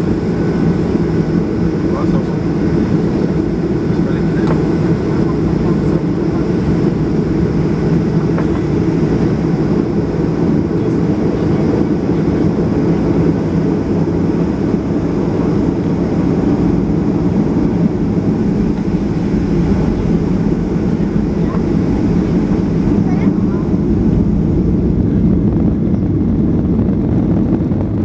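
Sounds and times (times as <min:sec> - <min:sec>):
jet engines droning: 0:00.0 - 0:28.0
rushing air: 0:00.0 - 0:28.0.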